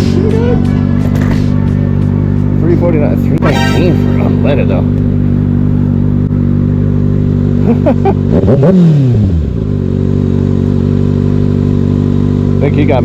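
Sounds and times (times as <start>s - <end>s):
motorcycle engine idling: 0.0s - 3.4s, 4.0s - 8.4s, 9.2s - 13.0s.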